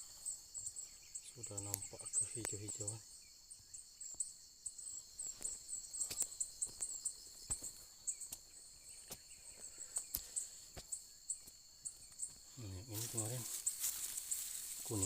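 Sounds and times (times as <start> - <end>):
insects buzzing drone: 0.0 - 15.0.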